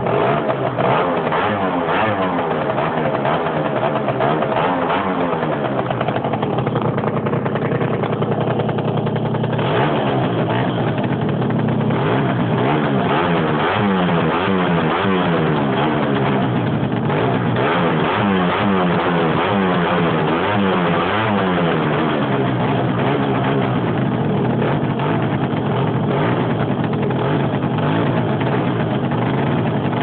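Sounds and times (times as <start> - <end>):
scooter engine revving: 0.0 - 30.0.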